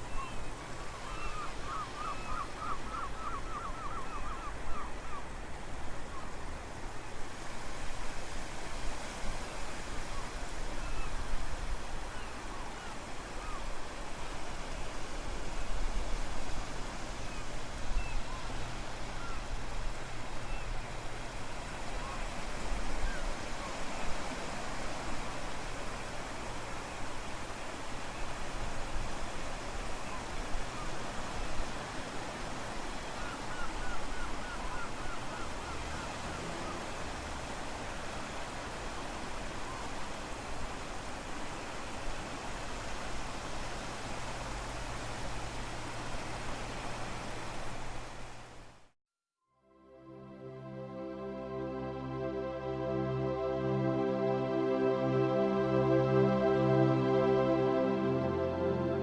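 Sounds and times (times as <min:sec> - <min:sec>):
sea waves washing on shore: 0:00.0 - 0:48.8.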